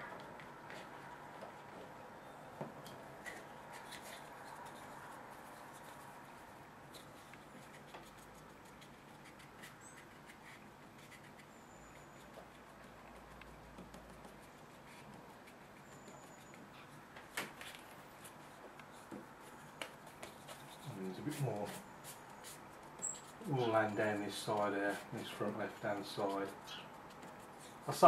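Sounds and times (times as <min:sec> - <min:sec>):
brush stroking across paper: 0:03.2 - 0:17.0, 0:17.6 - 0:28.0.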